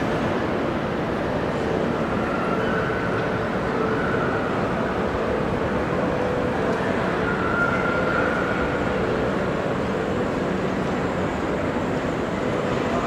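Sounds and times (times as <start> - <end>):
crowd noise: 0.0 - 13.0
traffic noise: 0.0 - 13.0.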